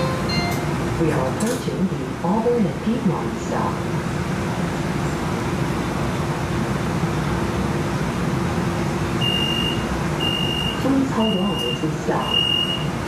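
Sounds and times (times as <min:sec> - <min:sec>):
constant hum: 0:00.0 - 0:13.0
streetcar cabin rumble: 0:00.0 - 0:13.0.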